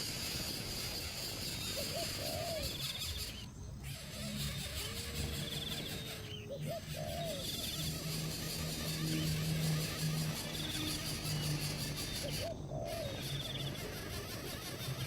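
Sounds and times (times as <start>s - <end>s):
buzzy insect-like trills: 0.0s - 15.0s
low arching animal calls: 0.0s - 15.0s.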